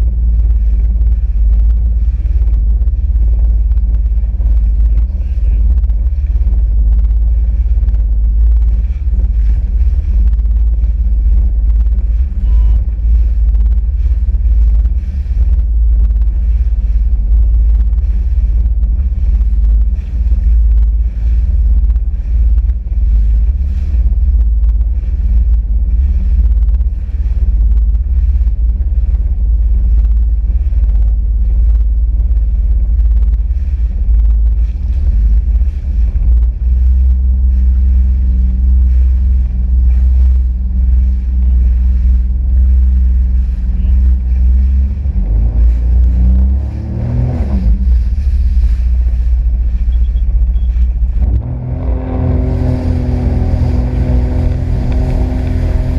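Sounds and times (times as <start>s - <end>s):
jet ski engine rumble: 0.0s - 55.9s
wind on microphone: 0.0s - 55.9s.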